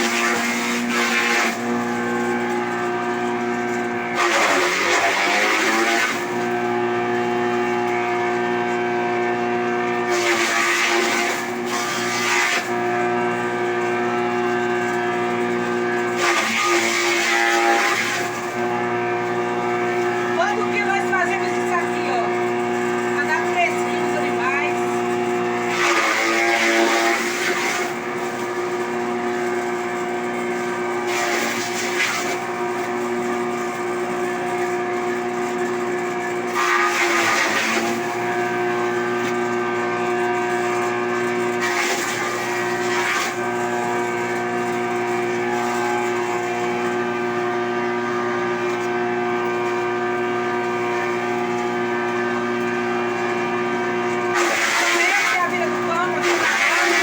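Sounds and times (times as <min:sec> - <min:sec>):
machinery humming: 0:00.0 - 0:57.0
rough machine noise: 0:00.0 - 0:57.0.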